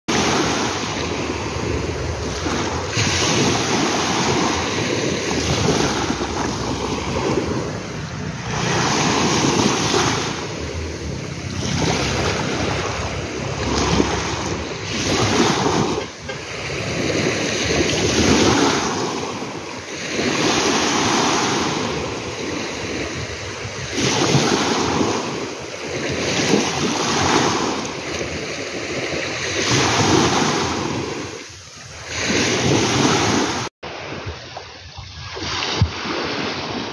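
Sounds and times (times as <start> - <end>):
ocean waves washing in: 0.1 - 36.9.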